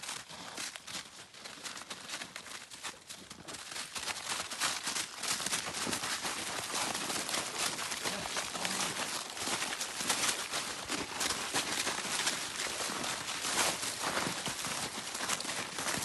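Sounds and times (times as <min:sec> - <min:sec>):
footsteps crunching snow and leaves: 0:00.0 - 0:16.0.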